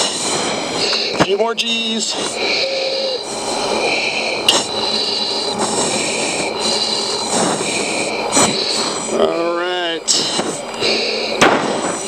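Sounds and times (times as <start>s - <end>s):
breaths through oxygen mask: 0.0s - 12.0s
rushing cockpit noise: 0.0s - 12.0s.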